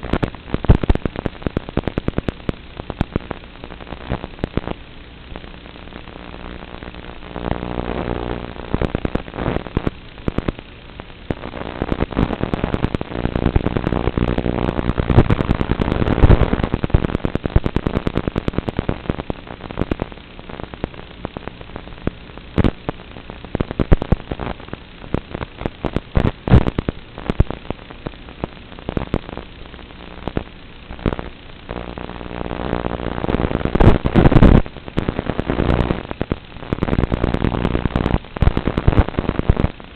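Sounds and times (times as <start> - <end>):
crackling static and pops: 0.0 - 39.9
steady humming tone: 0.0 - 39.9.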